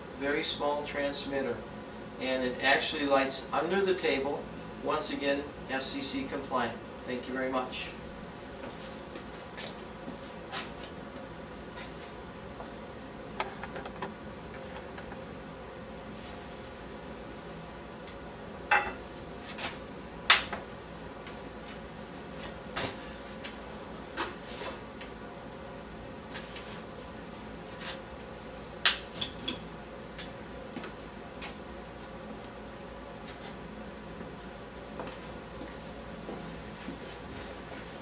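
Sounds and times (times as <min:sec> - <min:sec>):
faint hum: 0:00.0 - 0:38.0.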